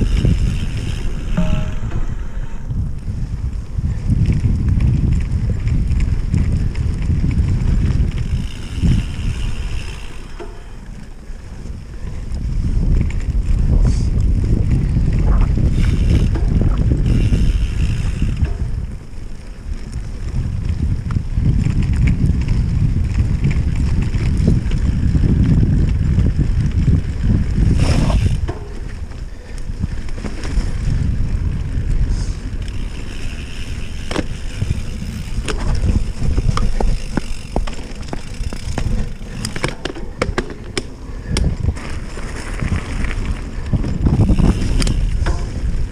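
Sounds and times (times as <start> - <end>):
bike knocks and rattles: 0.0 - 11.4, 14.4 - 31.9, 32.5 - 45.9
wind buffeting microphone: 0.0 - 45.9.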